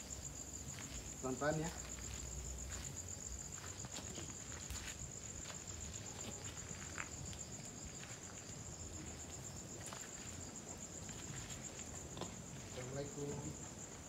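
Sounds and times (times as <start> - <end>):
insects trilling: 0.0 - 14.0
faint ticks and rustles: 0.1 - 14.0.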